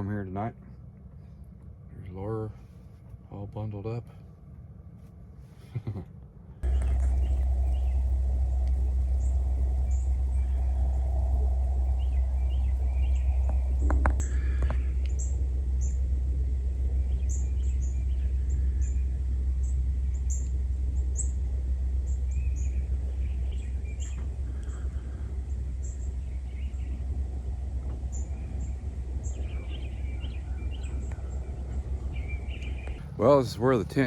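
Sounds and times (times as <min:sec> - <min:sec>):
songbirds chirping: 0:00.0 - 0:04.1, 0:06.6 - 0:34.0
steady low rumble: 0:00.0 - 0:34.0
lower bird calls: 0:06.6 - 0:34.0.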